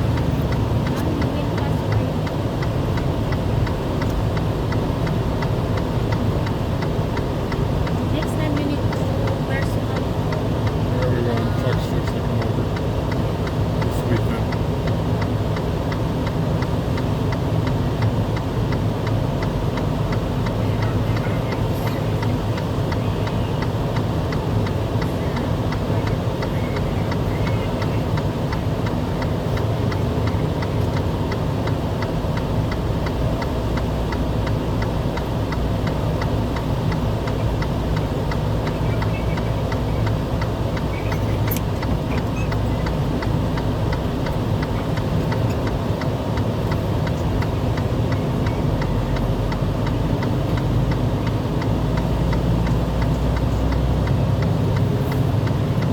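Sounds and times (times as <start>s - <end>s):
engine and road hum: 0.0s - 55.9s
fast even ticking: 0.0s - 55.9s.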